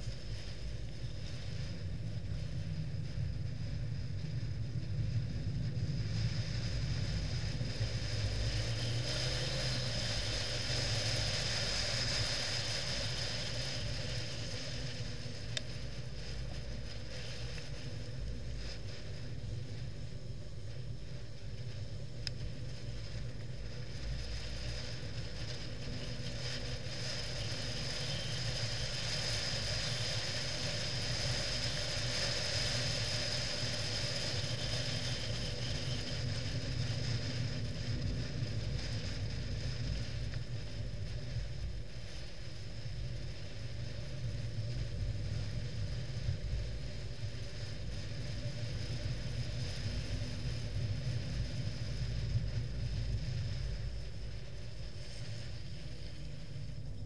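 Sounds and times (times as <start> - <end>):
longboard wheels rolling on asphalt: 0.0 - 57.0.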